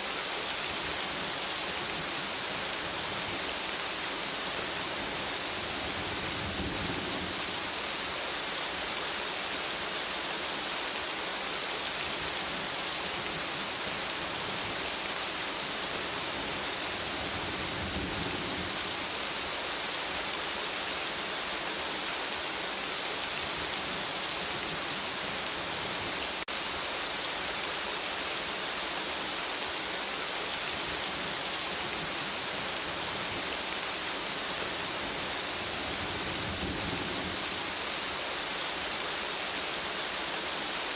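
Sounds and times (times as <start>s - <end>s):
steady rain in a forest: 0.0s - 40.9s.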